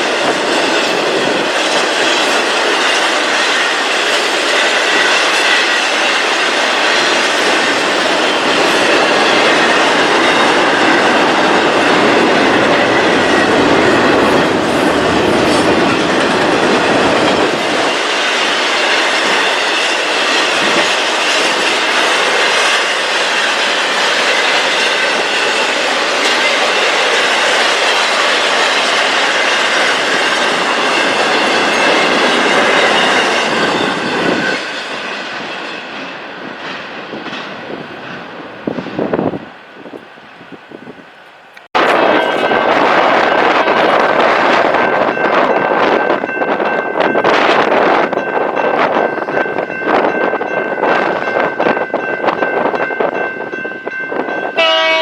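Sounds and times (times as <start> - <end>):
railroad cars rolling past: 0.0 - 55.0.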